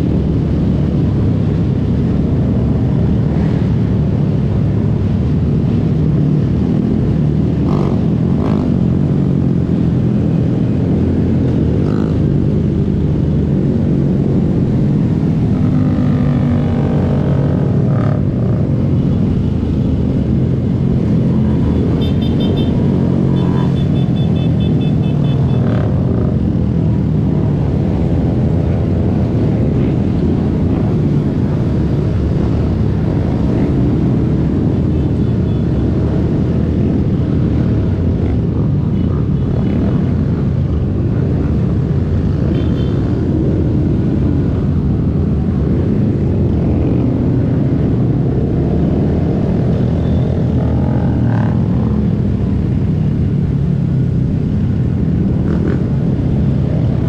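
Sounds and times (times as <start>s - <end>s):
motorcycle engines running: 0.0s - 57.0s.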